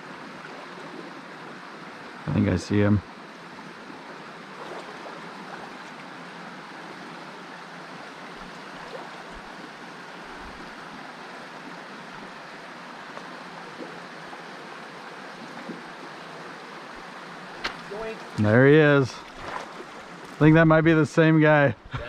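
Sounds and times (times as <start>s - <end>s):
stream water over rocks: 0.0s - 21.7s.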